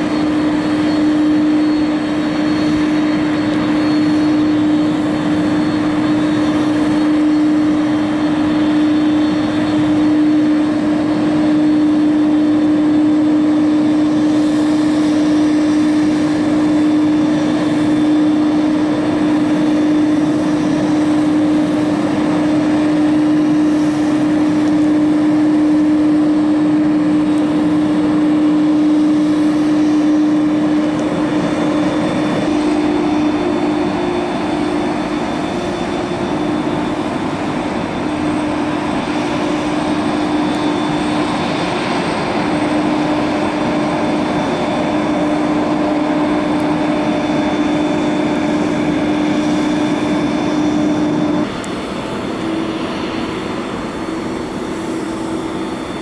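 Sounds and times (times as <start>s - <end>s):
aircraft engine humming: 0.0s - 56.0s.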